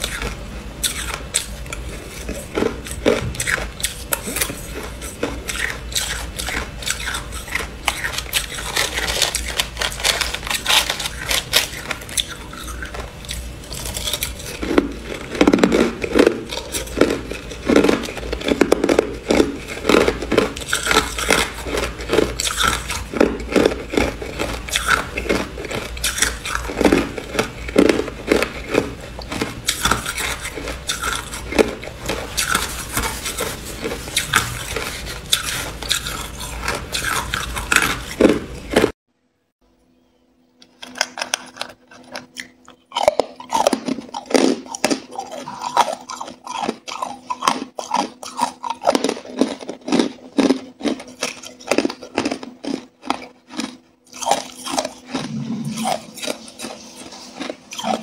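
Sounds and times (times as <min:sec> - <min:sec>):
ice crunched between teeth: 0:02.1 - 0:38.9, 0:40.8 - 0:58.0.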